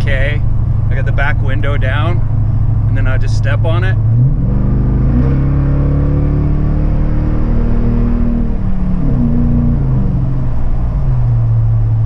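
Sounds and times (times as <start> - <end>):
truck exhaust accelerating: 0.0 - 12.0.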